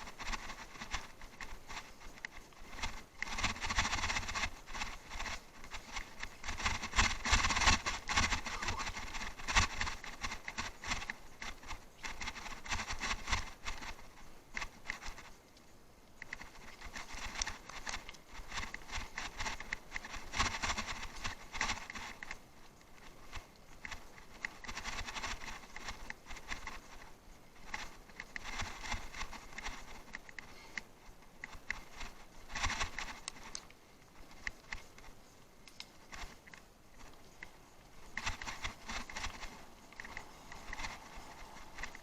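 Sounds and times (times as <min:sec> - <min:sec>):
bicycle rattling over rough ground: 0:00.0 - 0:42.0.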